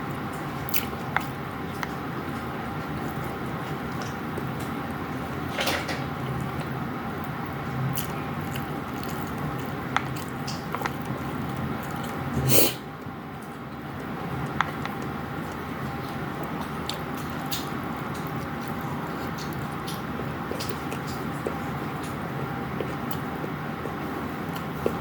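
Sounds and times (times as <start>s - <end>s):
chewing and mouth sounds: 0.0s - 5.4s, 6.2s - 12.3s, 13.0s - 25.0s
low background hum: 0.0s - 25.0s.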